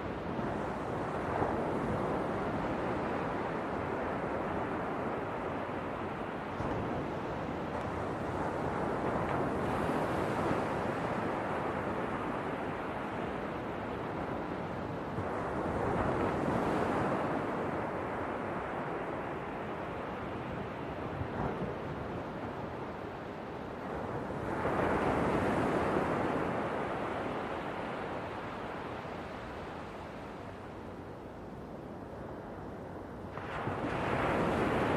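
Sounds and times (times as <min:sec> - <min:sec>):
ocean waves: 0:00.0 - 0:34.9.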